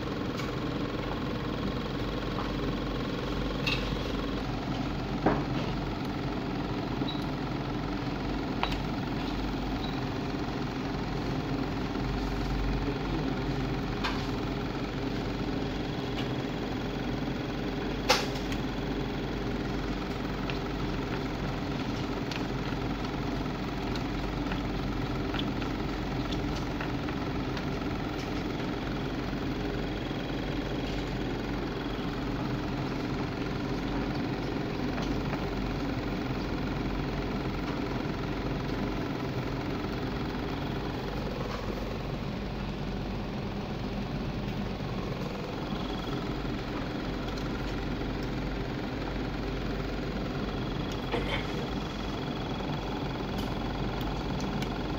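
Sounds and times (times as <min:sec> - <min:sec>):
machine hum: 0:00.0 - 0:54.9.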